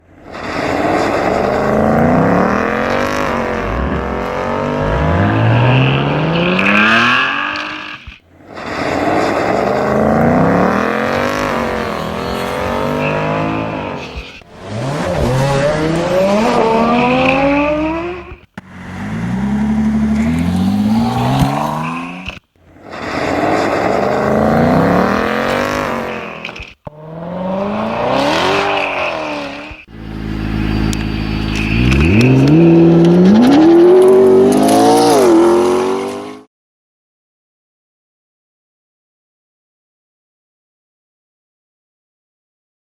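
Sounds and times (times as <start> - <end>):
car engine accelerating through gears: 0.1 - 36.5.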